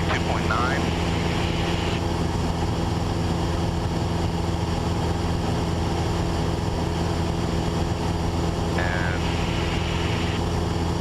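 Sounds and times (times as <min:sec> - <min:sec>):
airplane engine drone in cabin: 0:00.0 - 0:11.0.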